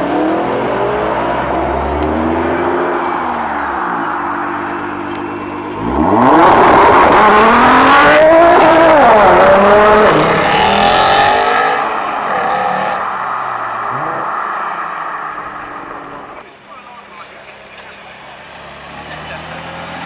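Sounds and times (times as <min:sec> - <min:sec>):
car engine revving: 0:00.0 - 0:16.4.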